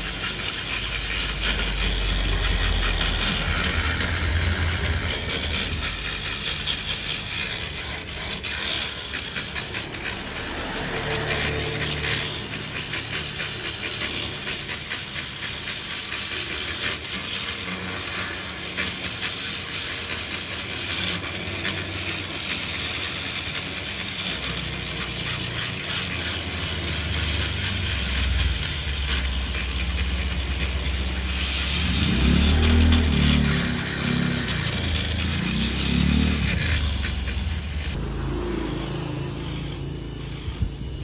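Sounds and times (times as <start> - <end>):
grinder bit rasping on metal: 0.0 - 41.0
rotary grinder whine: 0.0 - 41.0.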